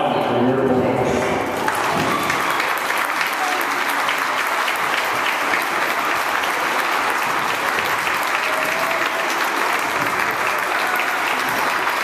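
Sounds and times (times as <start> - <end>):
crowd applauding: 0.2 - 12.0.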